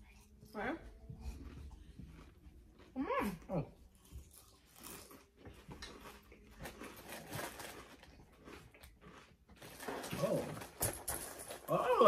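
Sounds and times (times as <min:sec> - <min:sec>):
chewing and crunching cereal: 0:00.0 - 0:12.0.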